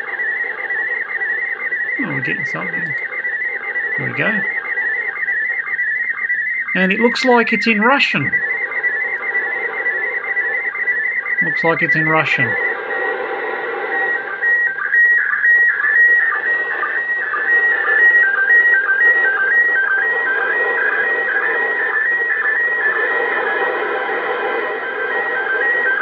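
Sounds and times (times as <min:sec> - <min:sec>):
warbling high-pitched radio tone: 0:00.0 - 0:26.0.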